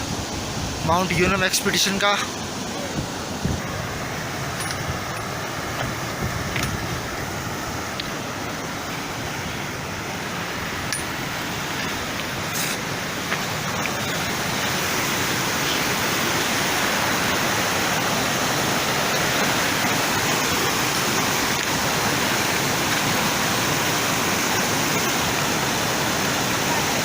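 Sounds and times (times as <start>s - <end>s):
fast-flowing water rushing: 0.0s - 27.0s.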